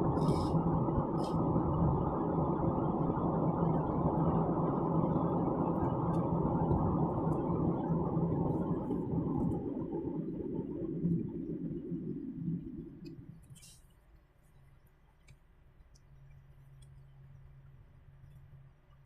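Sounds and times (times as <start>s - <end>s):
car interior rumble: 0.0s - 19.0s
faint hum: 0.0s - 19.0s.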